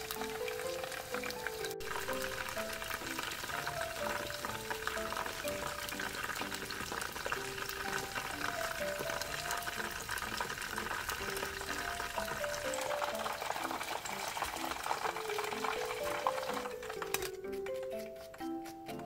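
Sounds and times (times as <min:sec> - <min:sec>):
chicken deep-frying in oil: 0:00.0 - 0:18.5
background music: 0:00.0 - 0:19.0.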